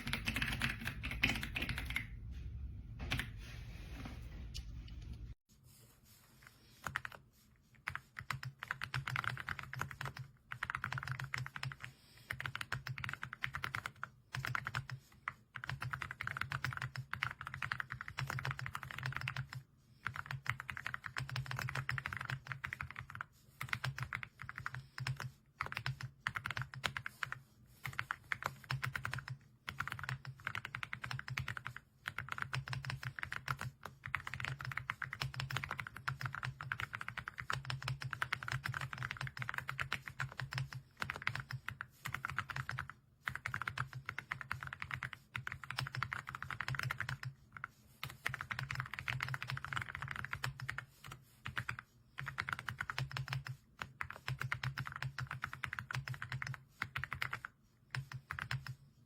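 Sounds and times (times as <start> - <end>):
mechanical keyboard typing: 0.0 - 2.1, 7.9 - 15.0, 15.6 - 58.8.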